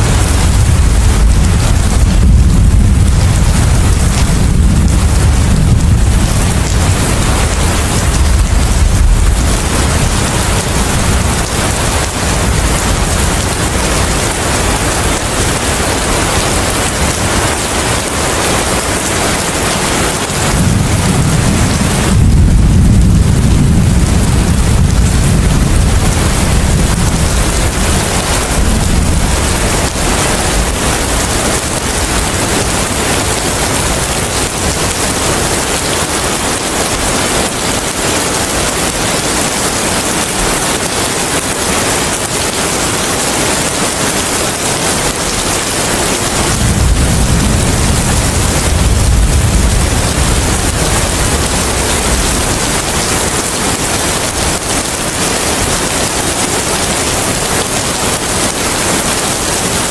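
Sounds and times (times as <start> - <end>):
heavy rain hissing: 0.0 - 59.9
wind gusts rumbling: 0.0 - 59.9.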